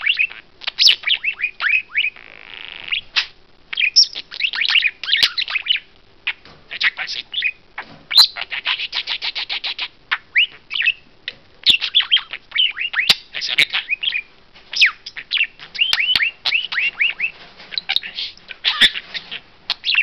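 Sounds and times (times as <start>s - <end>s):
budgerigar chattering and warbling: 0.0s - 11.0s, 11.6s - 20.0s.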